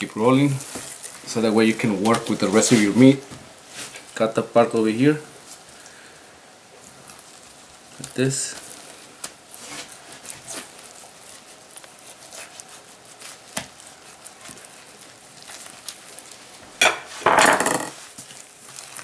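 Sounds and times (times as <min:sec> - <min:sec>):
meat rustling as handled: 0:00.0 - 0:06.0, 0:06.6 - 0:17.2, 0:17.9 - 0:19.0.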